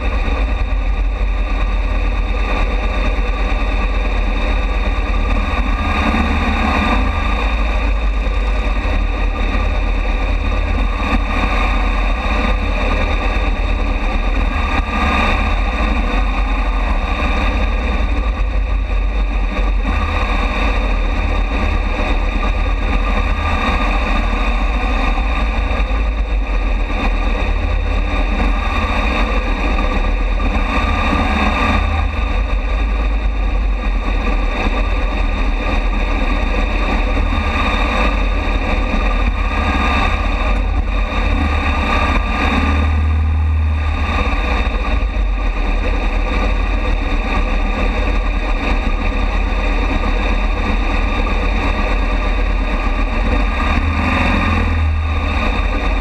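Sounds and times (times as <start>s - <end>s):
motorcycle engine rumbling: 0.0s - 56.0s
other motorcycles running: 0.0s - 56.0s.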